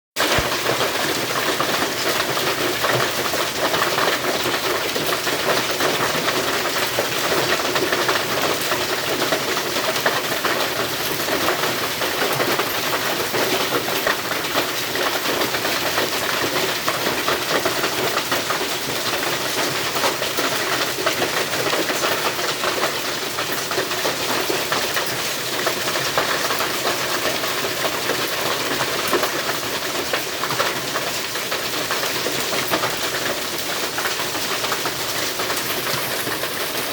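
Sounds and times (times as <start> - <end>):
hail clattering: 0.2 - 36.9.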